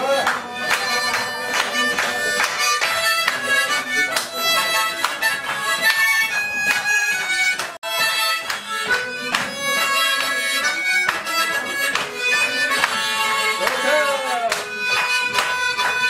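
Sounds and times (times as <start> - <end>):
harmonica playing chords: 0.0 - 16.0.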